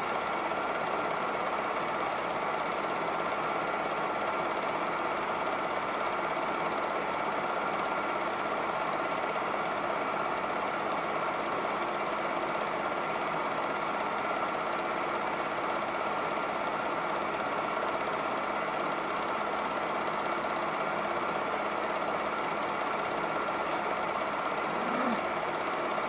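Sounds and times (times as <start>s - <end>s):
film projector clattering: 0.0s - 26.0s.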